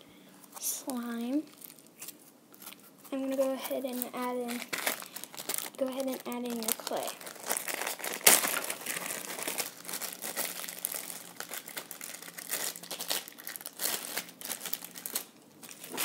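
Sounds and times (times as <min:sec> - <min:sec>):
plastic bag crinkling: 0:00.8 - 0:16.0.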